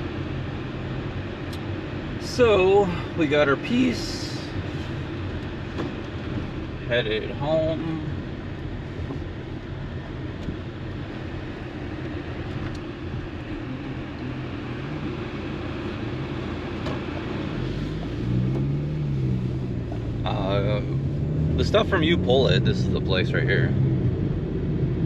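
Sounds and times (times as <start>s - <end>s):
road noise: 0.0s - 25.0s
vehicle engine running: 0.0s - 25.0s.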